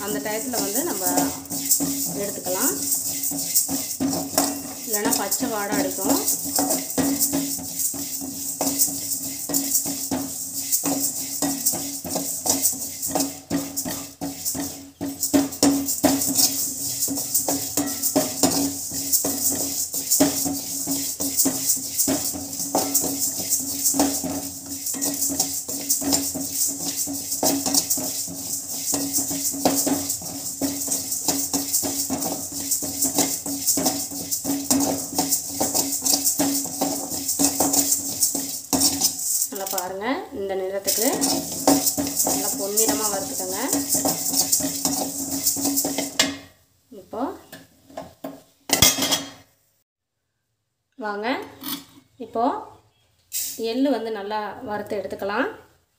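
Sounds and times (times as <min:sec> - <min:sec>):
dry lentils rattling in metal pan: 0:00.0 - 0:46.4, 0:53.4 - 0:53.6
spatula stirring: 0:00.0 - 0:46.6.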